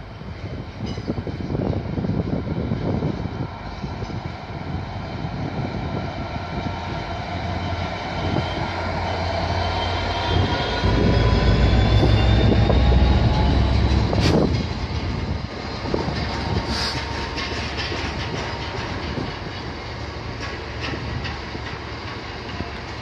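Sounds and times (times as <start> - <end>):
diesel locomotive engine passing: 0.0 - 23.0.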